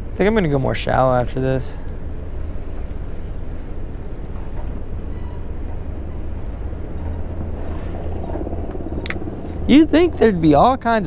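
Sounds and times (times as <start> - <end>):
wind rumbling over microphone: 2.0 - 11.0.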